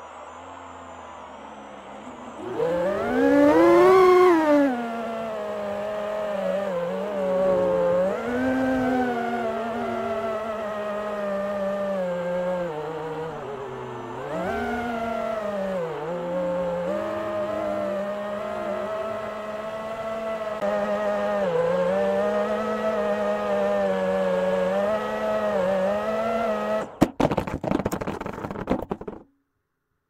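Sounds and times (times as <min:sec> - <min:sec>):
drone propellers whining: 0:00.0 - 0:27.0.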